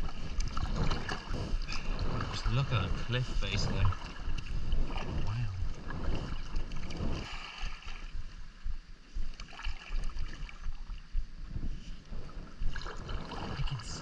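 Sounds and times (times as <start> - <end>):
paddle strokes: 0.0 - 14.0
water sloshing around kayak: 0.0 - 14.0
wind on microphone: 0.0 - 14.0.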